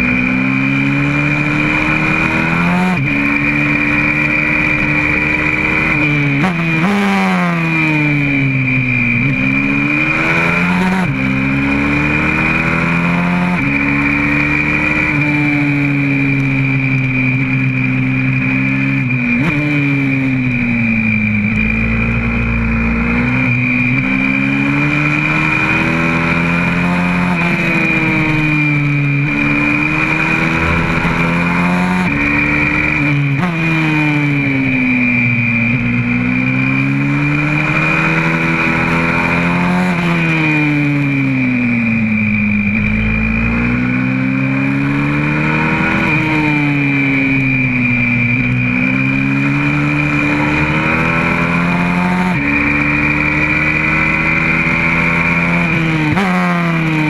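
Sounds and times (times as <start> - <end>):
high whine: 0.0 - 57.0
motorbike engine revving: 0.0 - 57.0.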